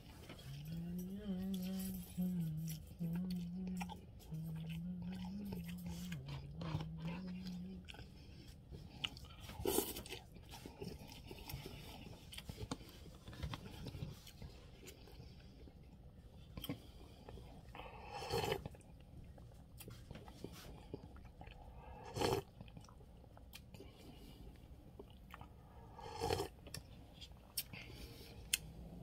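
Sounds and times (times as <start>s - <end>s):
person chewing: 0.2s - 28.7s.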